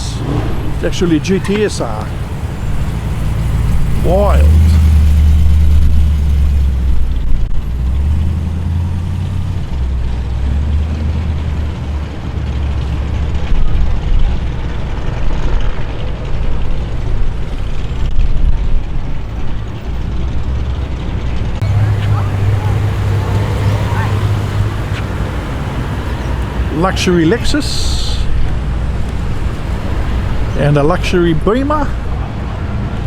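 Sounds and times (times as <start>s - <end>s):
cars driving slowly past: 0.0s - 33.0s.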